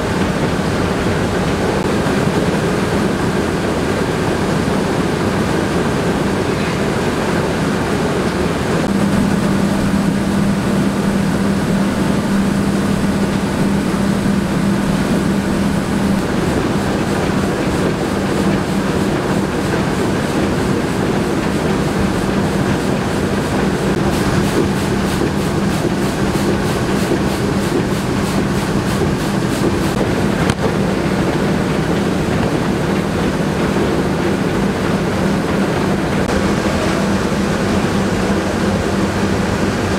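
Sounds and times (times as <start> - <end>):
milling machinery running: 0.0 - 39.9.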